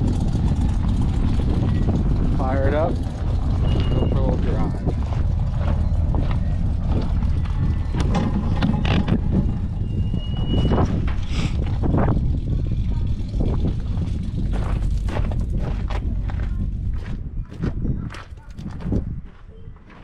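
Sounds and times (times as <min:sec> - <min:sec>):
knocks and clatter: 0:00.0 - 0:19.0
tractor engine running: 0:00.0 - 0:19.2.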